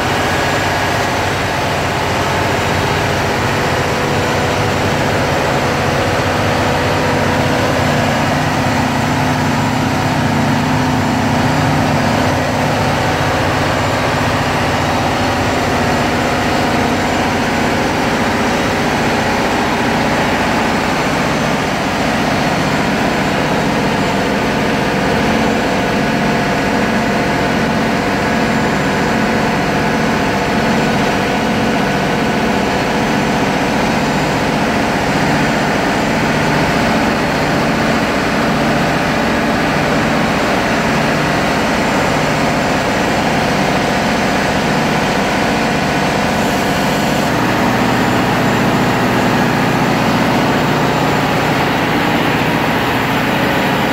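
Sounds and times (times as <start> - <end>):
diesel machinery droning: 0.0 - 53.9.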